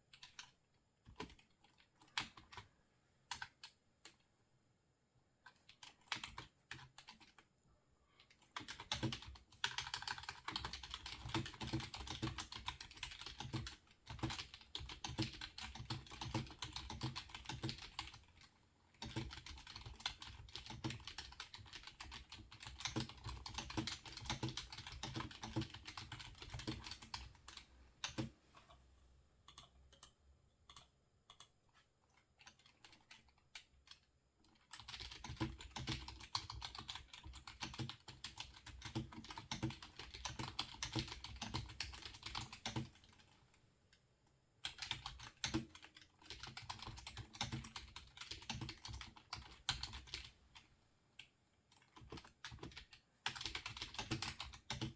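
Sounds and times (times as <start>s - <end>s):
typing on computer keyboard: 0.0s - 4.3s, 5.4s - 7.5s, 8.2s - 28.4s, 29.4s - 43.4s, 44.6s - 54.9s.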